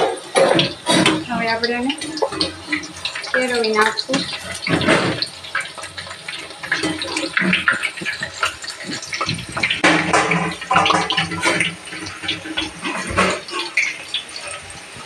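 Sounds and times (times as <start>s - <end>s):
dough deep-frying in oil: 0.0s - 15.0s.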